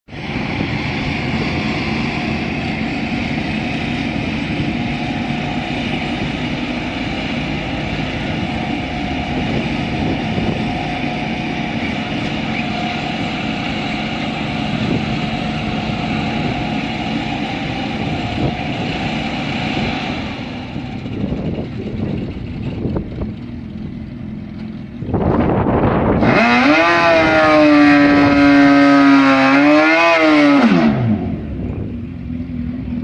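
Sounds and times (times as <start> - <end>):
vehicle engines idling: 0.1 - 33.0.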